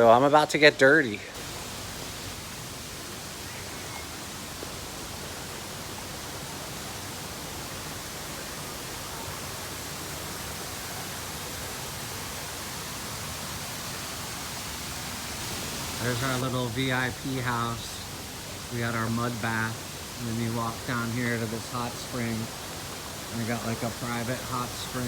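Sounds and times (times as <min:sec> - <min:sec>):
falling water hissing: 0:01.1 - 0:25.0.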